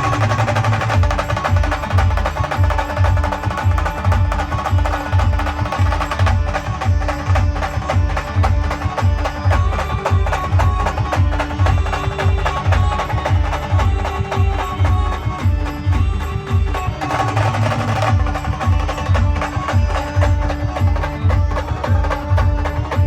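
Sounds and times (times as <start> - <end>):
heavy drum beat: 0.0 - 23.0
held melody line: 0.0 - 23.0.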